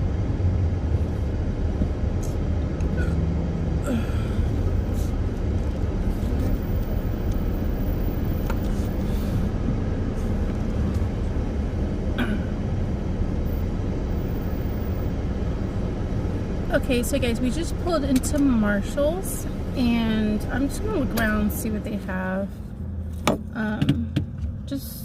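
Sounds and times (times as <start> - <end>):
car engine rumble: 0.0 - 25.0
road noise inside car: 0.0 - 25.0.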